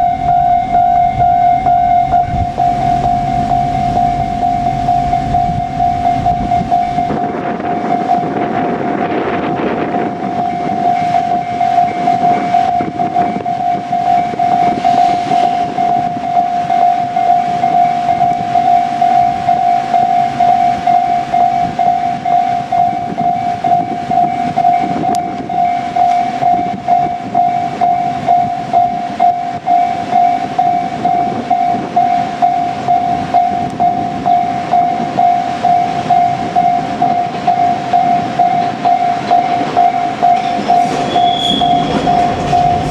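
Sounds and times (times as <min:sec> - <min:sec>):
level crossing alarm ringing: 0:00.0 - 0:08.8, 0:09.4 - 0:42.9
electric train running on rails: 0:00.0 - 0:42.9.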